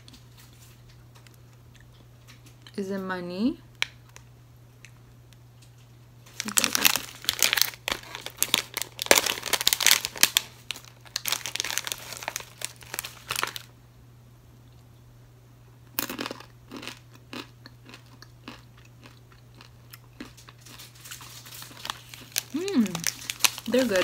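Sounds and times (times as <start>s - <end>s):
crunching and chewing peanuts: 0.0s - 2.8s, 3.8s - 13.7s, 15.8s - 24.0s.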